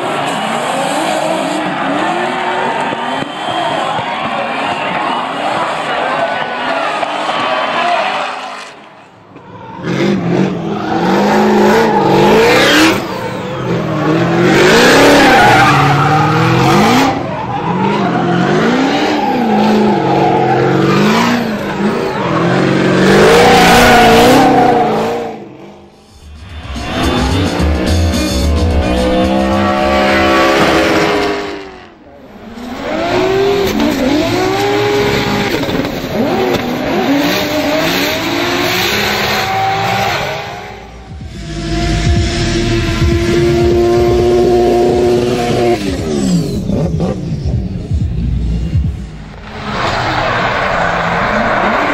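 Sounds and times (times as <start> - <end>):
car engines revving: 0.0 - 51.9.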